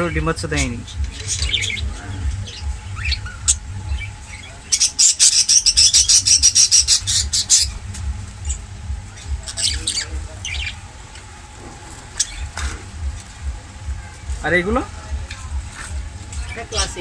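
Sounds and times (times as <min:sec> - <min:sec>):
parrots chirping: 0:00.0 - 0:17.0.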